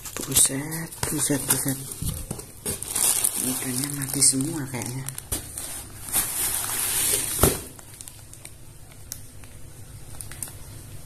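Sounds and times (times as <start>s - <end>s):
plastic bag crinkling: 0.0s - 10.8s
plastic rustling: 0.0s - 10.8s.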